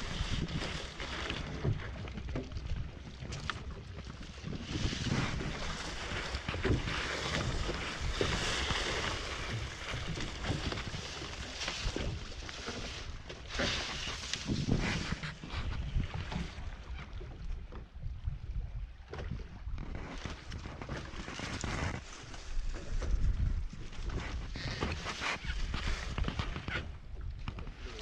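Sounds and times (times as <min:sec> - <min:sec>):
wind buffeting microphone: 0:00.0 - 0:20.0, 0:21.8 - 0:28.0
water washing against hull: 0:00.0 - 0:28.0.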